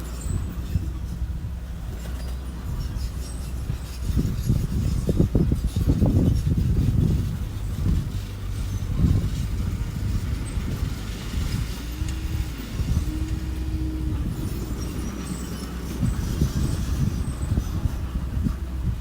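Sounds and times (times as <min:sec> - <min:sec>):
high engine whine: 0:00.0 - 0:19.0
machine engine rumbling: 0:00.0 - 0:19.0.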